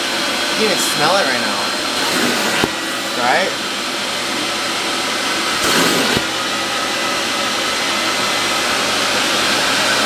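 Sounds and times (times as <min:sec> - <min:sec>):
carpet cleaner vacuum motor: 0:00.0 - 0:10.0.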